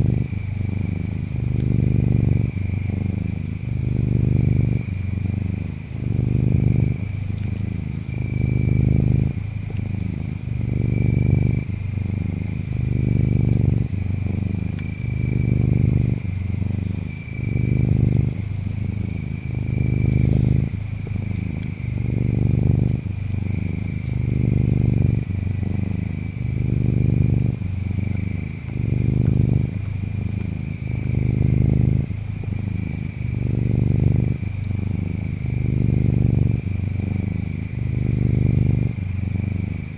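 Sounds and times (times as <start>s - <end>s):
cat purring: 0.0s - 39.9s
insects chirping: 0.0s - 39.9s.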